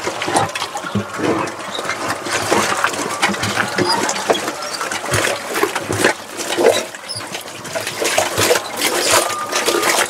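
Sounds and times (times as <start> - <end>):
slurry sloshing and churning: 0.0 - 10.0.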